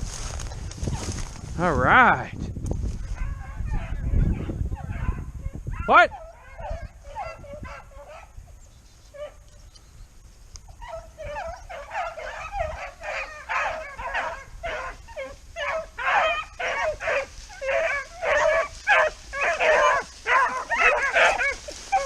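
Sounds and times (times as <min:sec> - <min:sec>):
hunting dogs baying: 0:03.0 - 0:09.6, 0:10.7 - 0:22.0.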